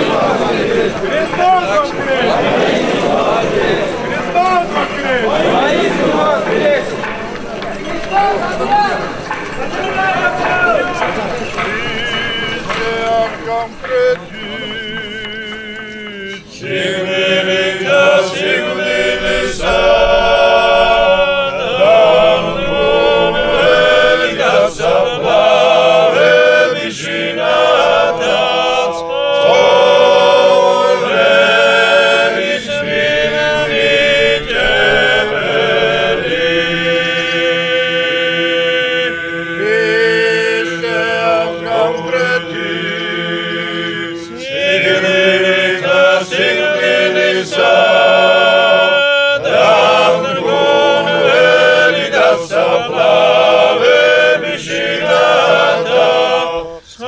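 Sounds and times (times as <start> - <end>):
male choir chanting a hymn: 0.0 - 57.0.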